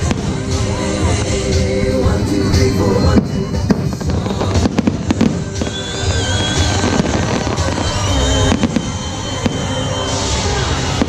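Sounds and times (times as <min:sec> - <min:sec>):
fireworks bangs and crackles: 0:00.0 - 0:11.0
loud show music: 0:00.0 - 0:11.0.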